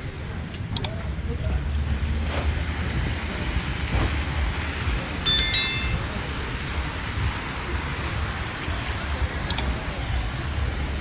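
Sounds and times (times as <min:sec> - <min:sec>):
passing vehicles hissing: 0:00.1 - 0:11.0.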